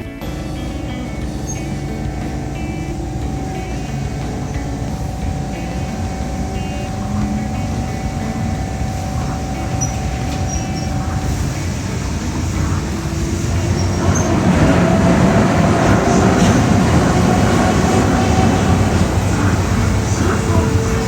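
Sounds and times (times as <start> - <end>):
faint whine: 0.0 - 21.0
vehicle rumble: 0.0 - 21.0.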